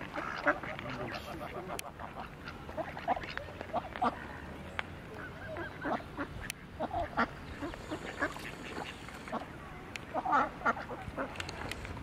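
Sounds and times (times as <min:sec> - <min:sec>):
ducks quacking: 0:00.0 - 0:04.4, 0:05.1 - 0:11.6.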